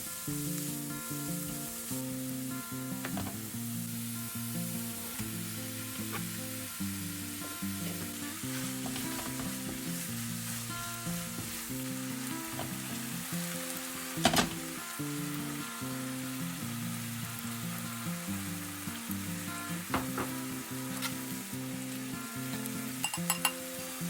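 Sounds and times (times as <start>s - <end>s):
background music with simple melody: 0.0s - 24.0s
food sizzling in a frying pan: 0.0s - 24.0s.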